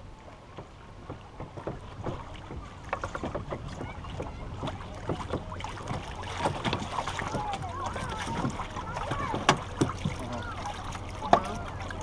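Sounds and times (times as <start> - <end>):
waves lapping against canoe hull: 0.0 - 12.0.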